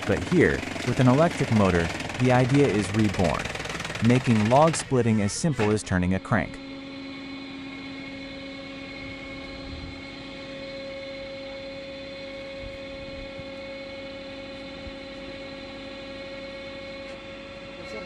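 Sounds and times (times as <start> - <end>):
log splitter motor humming: 0.0 - 18.0.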